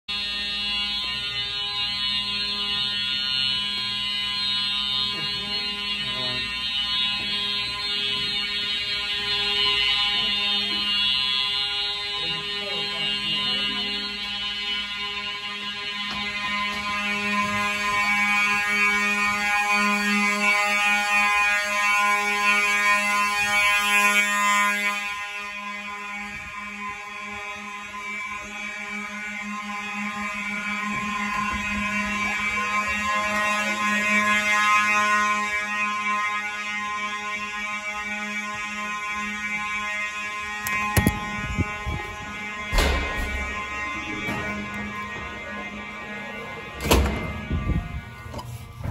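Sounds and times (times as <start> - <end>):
fire alarm horns: 0.0 - 48.9.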